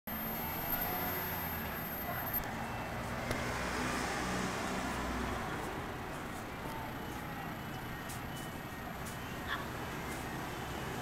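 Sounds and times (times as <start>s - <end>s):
cars passing slowly: 0.1s - 11.0s.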